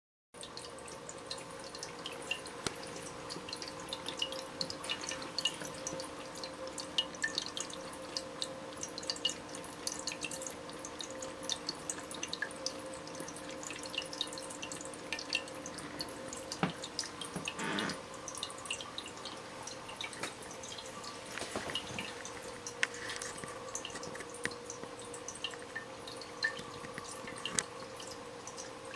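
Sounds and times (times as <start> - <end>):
pump hum: 0.4 - 28.9
water trickling into a bowl: 0.4 - 28.9.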